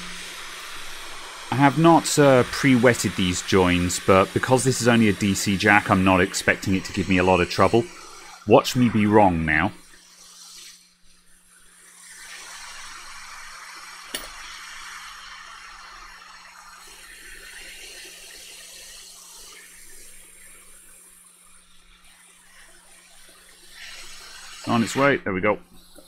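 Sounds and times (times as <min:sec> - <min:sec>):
faint steady hum: 0:00.0 - 0:26.0
hot air station rushing hiss: 0:00.0 - 0:26.0.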